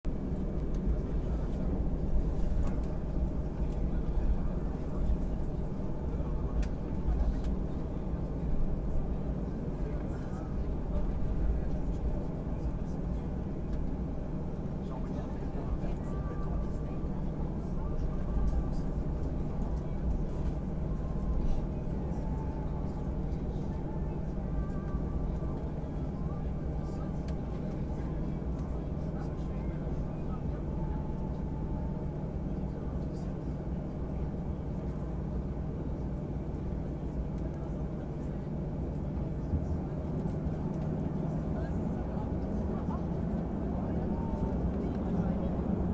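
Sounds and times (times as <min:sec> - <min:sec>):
low airfield rumble: 0:00.0 - 0:45.9.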